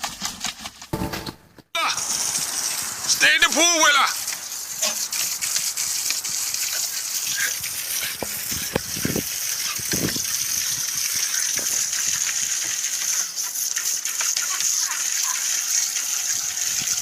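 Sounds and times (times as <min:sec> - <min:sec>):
water splashes: 0:01.0 - 0:17.0
rushing water in a pool: 0:01.8 - 0:17.0.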